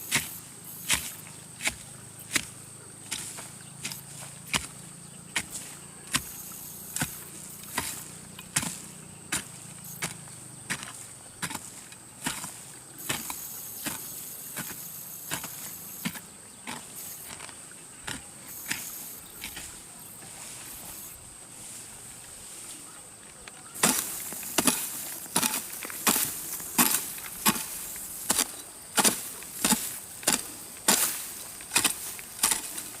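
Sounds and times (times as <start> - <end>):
hand hoe chopping into ground: 0.0 - 21.2, 23.6 - 33.0.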